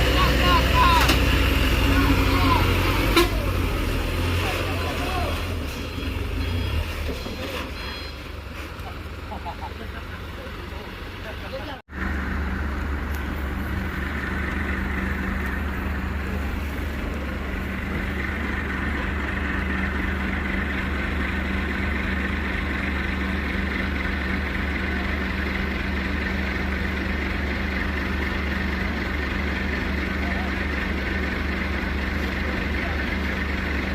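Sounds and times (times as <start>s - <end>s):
heavy vehicle engine droning: 0.0s - 33.9s.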